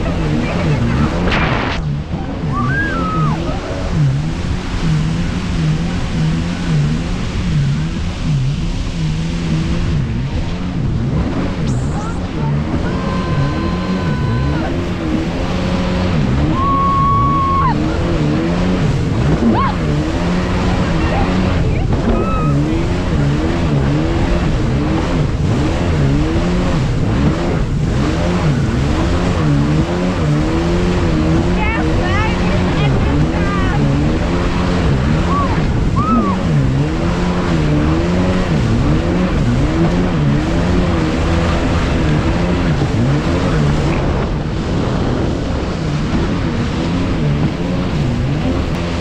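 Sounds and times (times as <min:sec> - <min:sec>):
jet ski engine: 0:00.0 - 0:49.0
rush of wind and water: 0:00.0 - 0:49.0.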